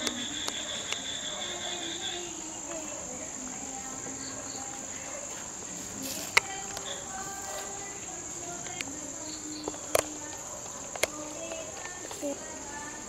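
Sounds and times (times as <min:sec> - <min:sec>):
crickets trilling: 0:00.0 - 0:13.0
pulsing insect call: 0:00.0 - 0:13.0.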